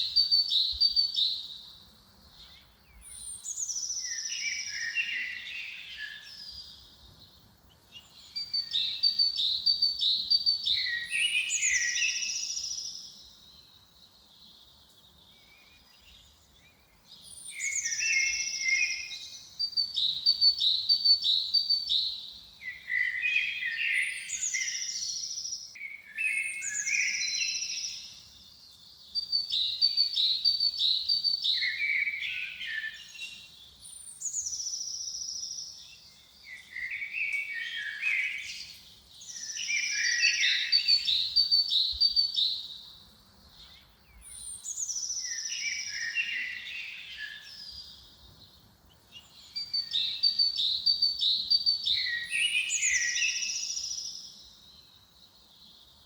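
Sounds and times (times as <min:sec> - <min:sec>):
birdsong: 0:00.0 - 0:56.0.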